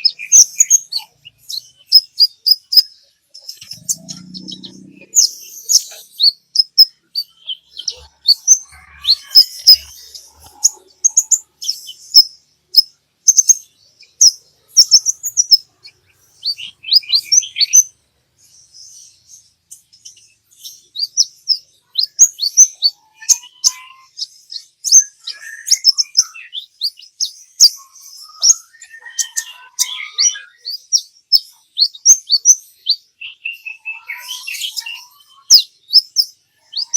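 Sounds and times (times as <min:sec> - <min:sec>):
sunbird chirping and trilling: 0:00.0 - 0:36.9.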